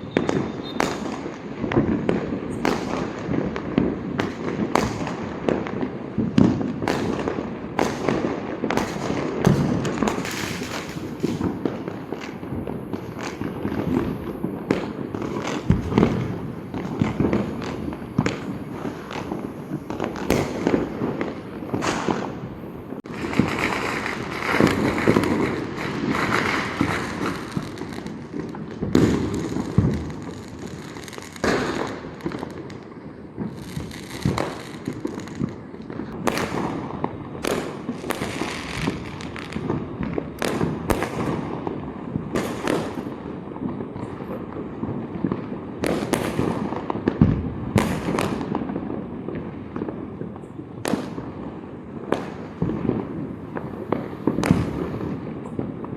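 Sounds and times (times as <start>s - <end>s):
firecracker bangs: 0.0s - 32.6s, 33.3s - 44.4s, 45.3s - 49.9s, 52.1s - 55.9s
firework crackling: 0.0s - 55.9s.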